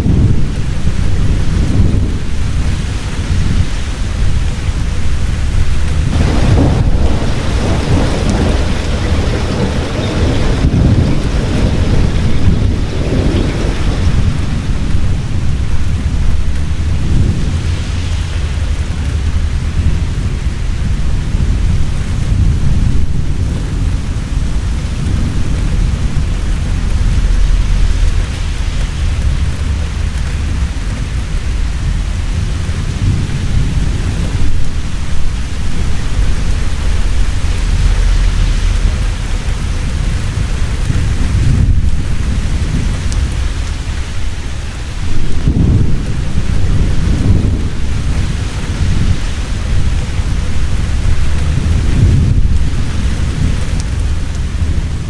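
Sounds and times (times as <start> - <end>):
heavy rain pouring: 0.0 - 55.0
rolling thunder: 0.0 - 55.0.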